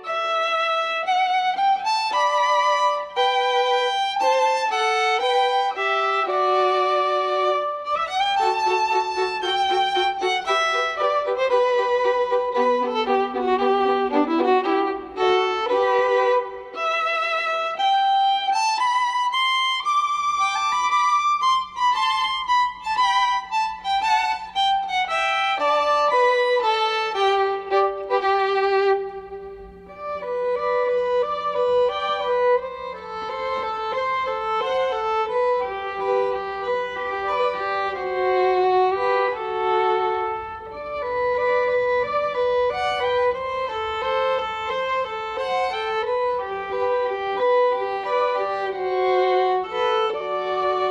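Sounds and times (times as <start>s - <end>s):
violin melody with vibrato: 0.0s - 50.9s.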